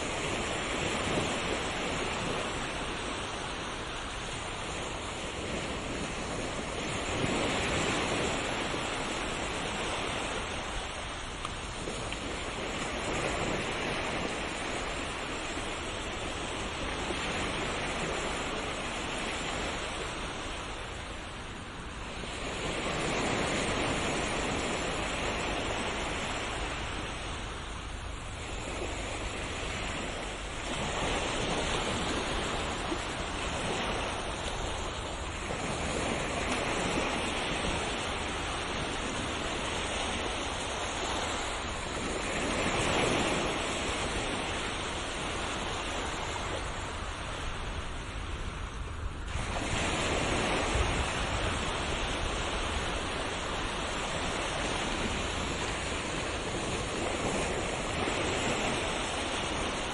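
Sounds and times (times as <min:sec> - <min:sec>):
sea waves surf: 0:00.0 - 0:59.9.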